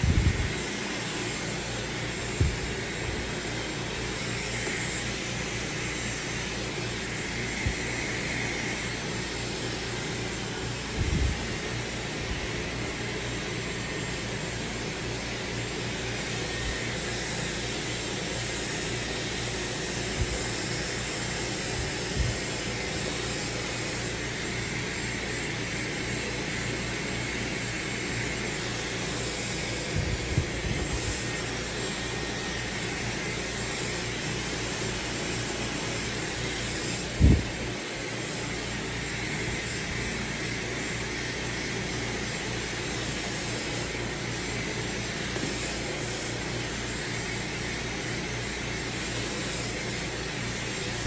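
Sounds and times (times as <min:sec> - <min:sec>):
hair dryer blowing: 0:00.0 - 0:51.0.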